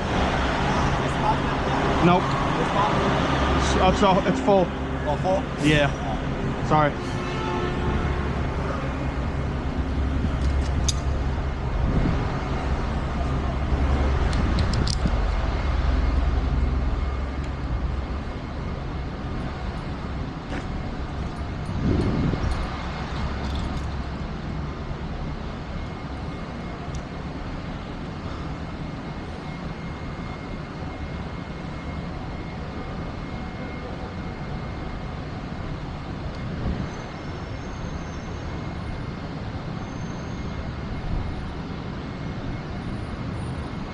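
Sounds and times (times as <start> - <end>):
car engines and traffic rumbling: 0.0 - 43.9.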